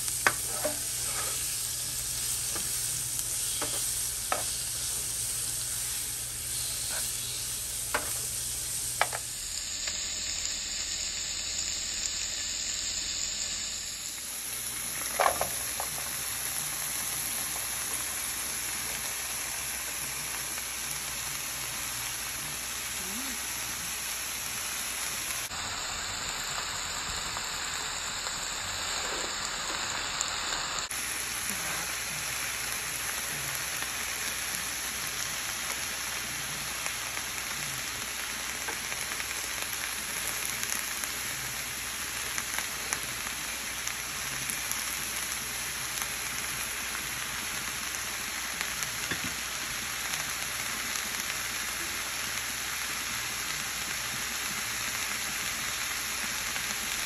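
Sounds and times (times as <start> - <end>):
vegetables sizzling in oil: 0.0 - 57.0.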